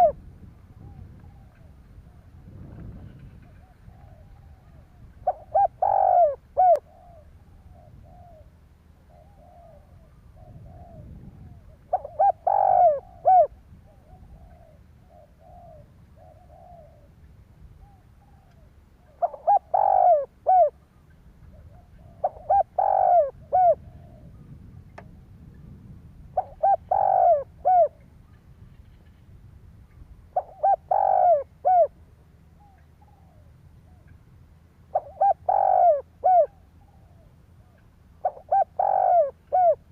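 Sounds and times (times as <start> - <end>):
dove cooing: 0.0 - 17.2, 17.8 - 24.6, 26.4 - 28.1, 30.3 - 34.2, 34.8 - 39.9.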